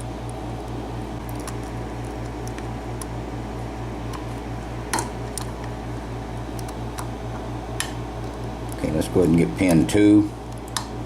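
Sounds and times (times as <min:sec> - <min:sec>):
pulsing low mechanical hum: 0:00.0 - 0:11.0.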